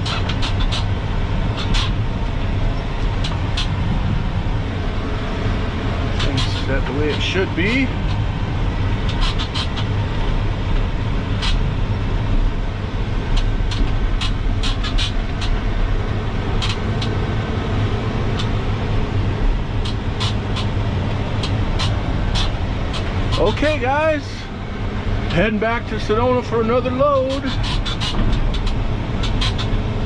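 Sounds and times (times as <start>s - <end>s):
road noise: 0.0s - 30.0s
truck engine running: 0.0s - 30.0s.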